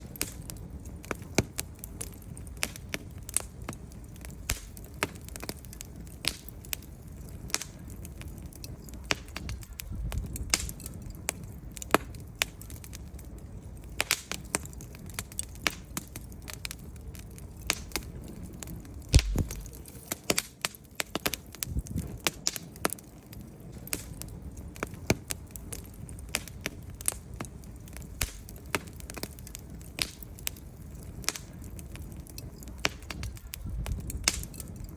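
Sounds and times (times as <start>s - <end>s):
logs crackling and popping: 0.0s - 34.9s
low rumble of flames: 0.0s - 34.9s.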